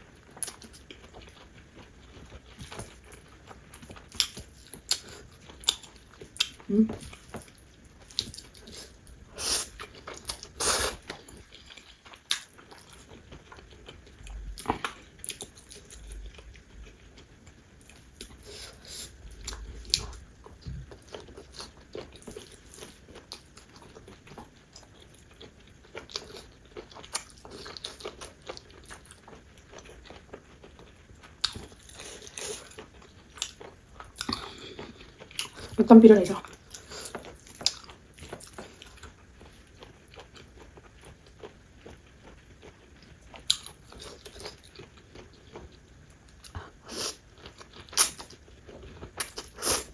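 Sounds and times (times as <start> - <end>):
chewing and biting food: 0.1 - 35.8, 36.4 - 49.9.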